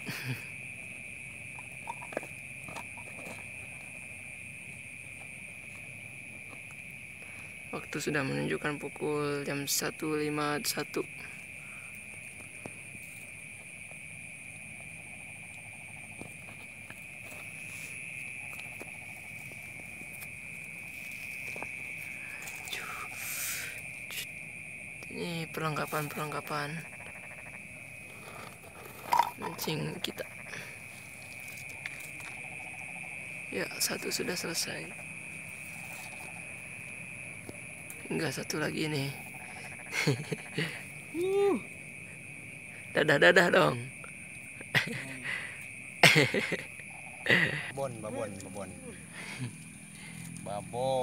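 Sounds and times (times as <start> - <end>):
night insects chirring: 0.0 - 51.0.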